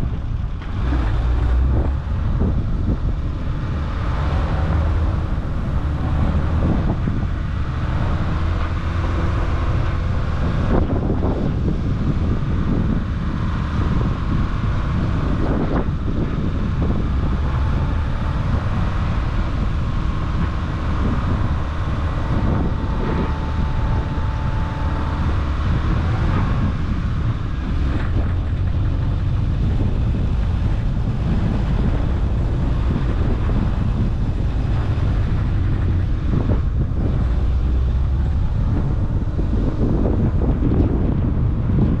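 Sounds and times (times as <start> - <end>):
car engine running: 0.0 - 42.0
tyre noise on road: 0.0 - 42.0
wind rushing past: 0.0 - 42.0.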